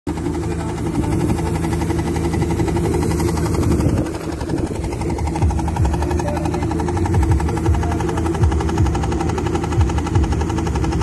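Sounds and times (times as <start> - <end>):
diesel engine running: 0.1 - 11.0.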